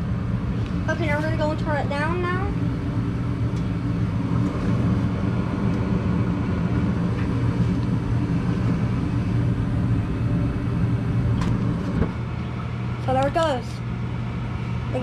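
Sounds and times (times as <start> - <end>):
gas furnace humming: 0.0 - 15.0.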